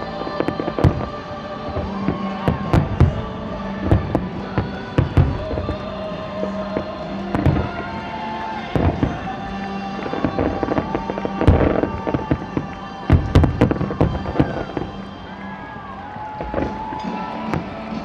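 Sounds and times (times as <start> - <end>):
fireworks bursting with crackle: 0.0 - 18.0
music playing: 0.0 - 18.0.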